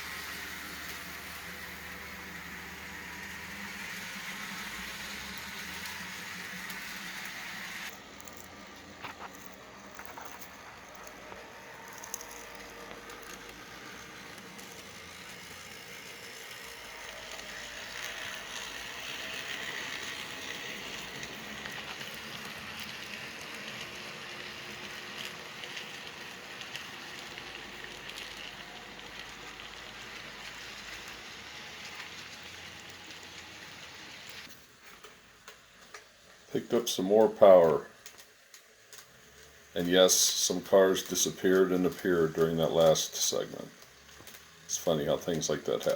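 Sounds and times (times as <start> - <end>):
model train motors whirring: 0.0 - 45.9.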